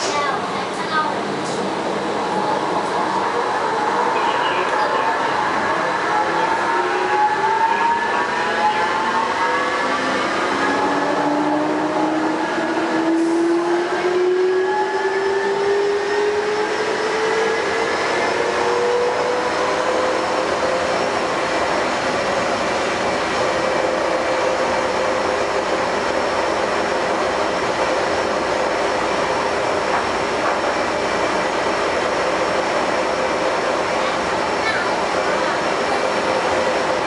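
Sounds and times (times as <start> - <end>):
train rumble: 0.0 - 37.0.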